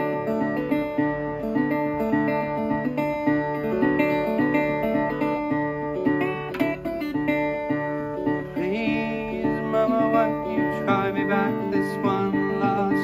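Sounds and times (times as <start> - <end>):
resonator guitar fingerpicked: 0.0 - 13.0.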